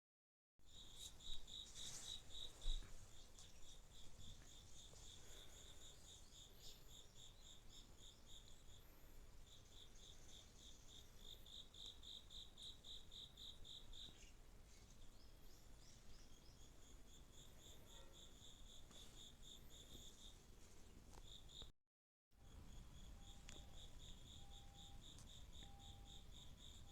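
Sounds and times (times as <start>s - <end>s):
faint crickets chirping: 0.6s - 21.7s, 22.4s - 26.9s.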